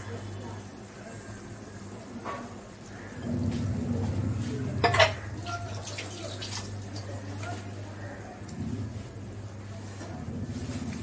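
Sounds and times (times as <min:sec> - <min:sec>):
spice paste frying and crackling: 0:00.0 - 0:11.0
steady low hum: 0:00.0 - 0:11.0.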